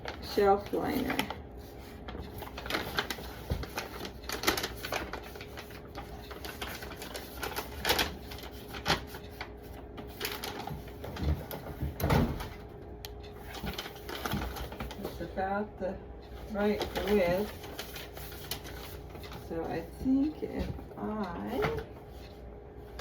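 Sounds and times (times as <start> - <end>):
packing paper crinkling: 0.0 - 12.0, 13.4 - 15.4, 16.4 - 21.6
paper crackles and taps: 0.0 - 15.4, 16.3 - 23.0.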